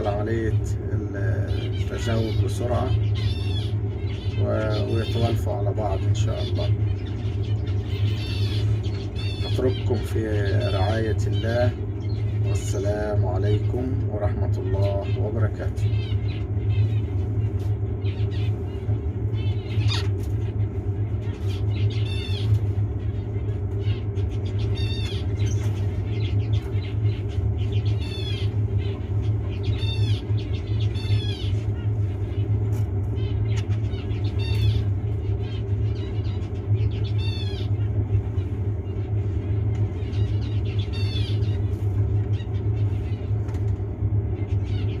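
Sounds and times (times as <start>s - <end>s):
finches chirping: 0.0s - 45.0s
steady low hum: 0.0s - 45.0s.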